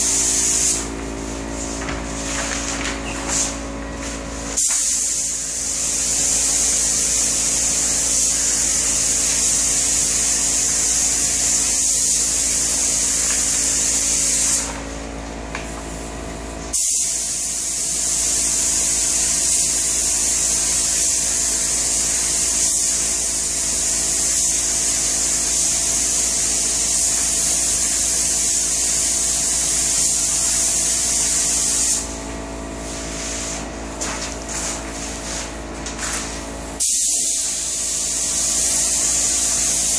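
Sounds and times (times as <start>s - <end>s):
spray gun hissing: 0.0s - 14.8s, 16.6s - 39.9s.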